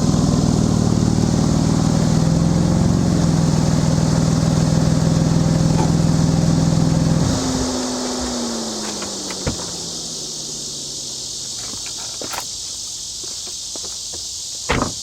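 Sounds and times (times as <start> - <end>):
car engine: 0.0 - 13.2
crickets chirping: 0.0 - 15.0.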